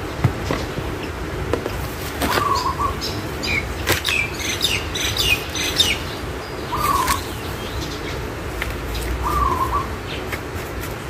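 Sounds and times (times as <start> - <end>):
birds chirping and warbling: 0.0 - 11.0.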